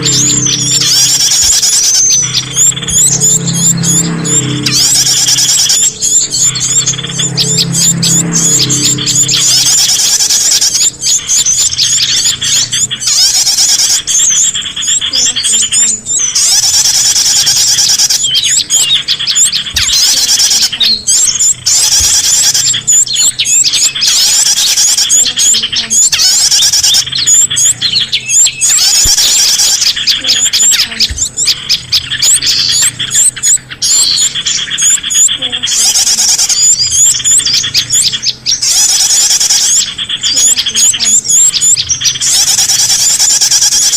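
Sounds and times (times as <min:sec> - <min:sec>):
songbirds chirping and twittering: 0:00.0 - 0:43.9.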